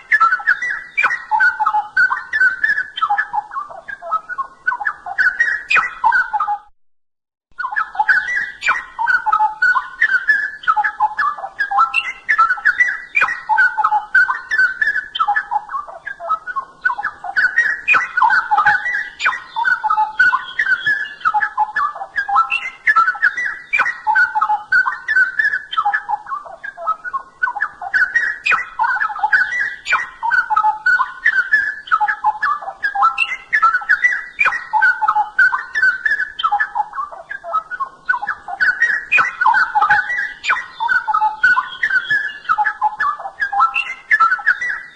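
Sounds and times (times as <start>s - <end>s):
bird singing warbled phrases: 0.0s - 6.7s, 7.5s - 44.9s.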